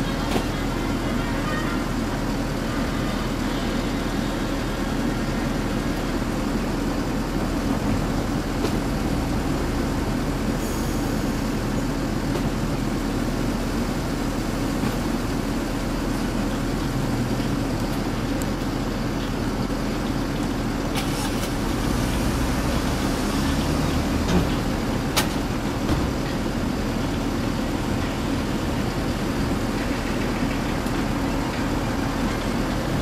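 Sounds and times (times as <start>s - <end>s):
traffic noise: 0.0s - 33.0s
trams running on rails: 0.0s - 33.0s.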